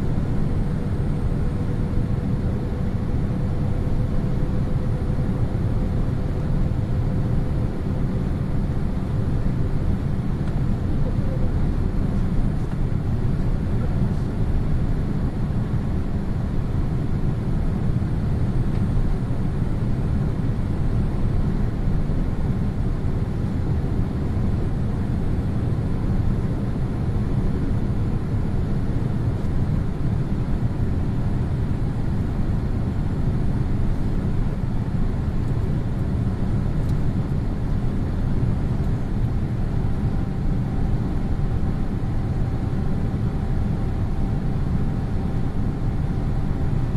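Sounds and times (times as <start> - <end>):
airplane cabin rumble: 0.0 - 46.9
faint steady hum: 0.0 - 46.9.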